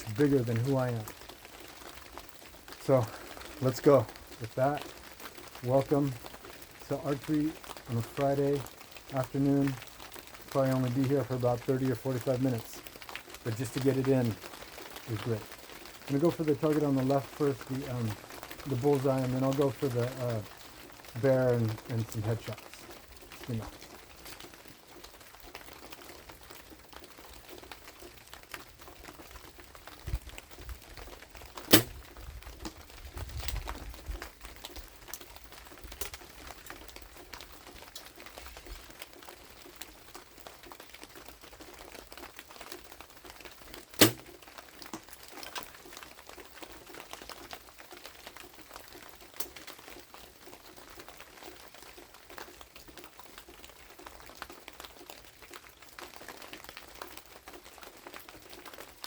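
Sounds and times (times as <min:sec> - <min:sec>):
light rain pattering: 0:00.0 - 0:59.0.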